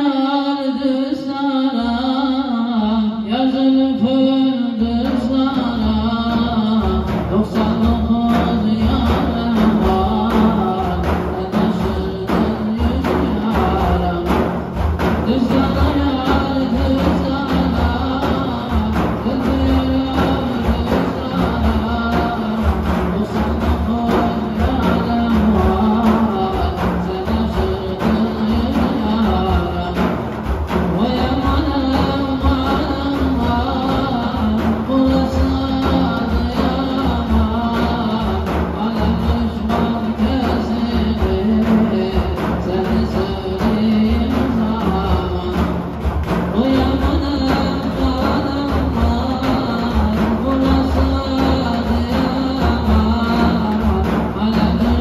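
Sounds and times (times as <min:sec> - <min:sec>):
person singing a folk song: 0:00.0 - 0:55.0
frame drums beating: 0:00.1 - 0:55.0.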